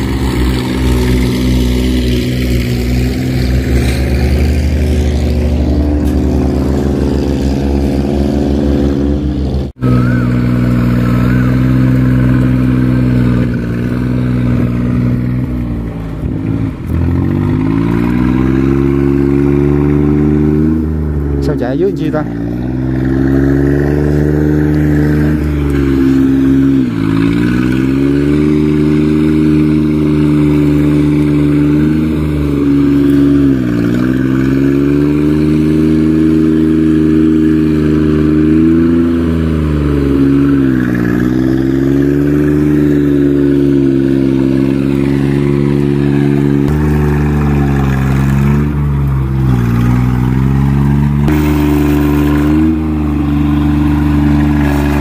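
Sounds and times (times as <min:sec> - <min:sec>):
diesel engine running hard: 0:00.0 - 0:55.0.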